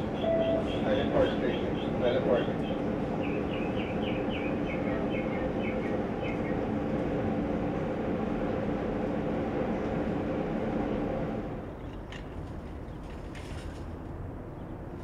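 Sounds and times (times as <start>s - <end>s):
light-rail train humming: 0.0s - 15.0s.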